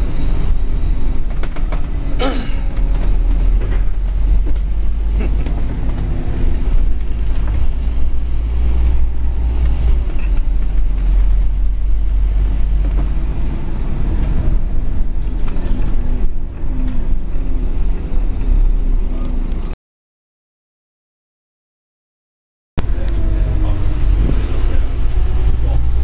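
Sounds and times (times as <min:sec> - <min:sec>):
bus diesel engine rumble: 0:00.0 - 0:19.8, 0:22.8 - 0:26.0
road noise: 0:00.0 - 0:19.8, 0:22.8 - 0:26.0.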